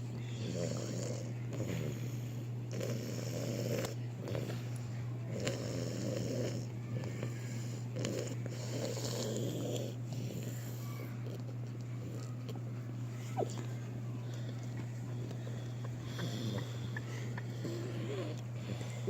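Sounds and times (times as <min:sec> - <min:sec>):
snoring breaths: 0:00.0 - 0:11.1, 0:14.2 - 0:19.0
steady low hum: 0:00.0 - 0:19.0.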